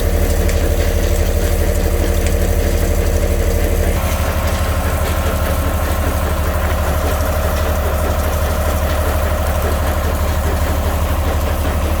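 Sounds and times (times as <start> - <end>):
heavy machinery humming: 0.0 - 12.0.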